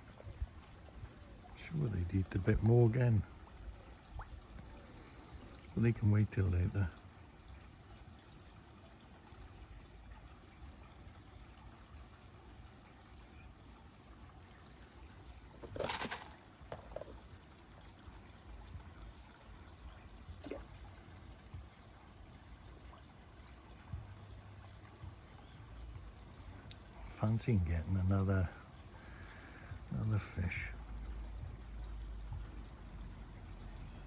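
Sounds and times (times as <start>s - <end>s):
pond water trickling: 0.0s - 34.0s.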